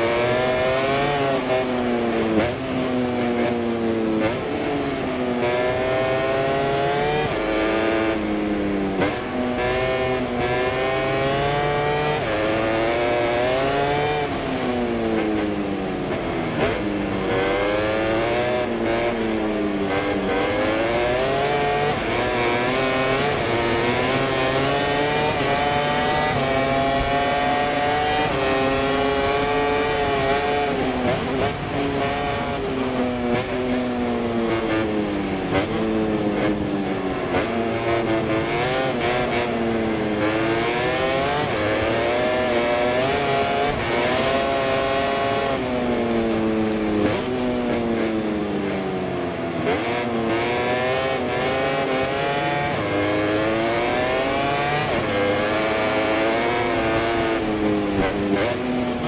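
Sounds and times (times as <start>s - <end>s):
racing motorcycle engine: 0.0s - 59.0s.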